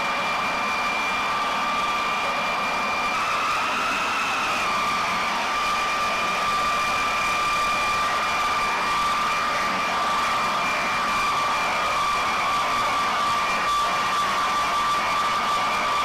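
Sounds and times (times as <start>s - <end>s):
jet engine whine and roar: 0.0s - 16.0s.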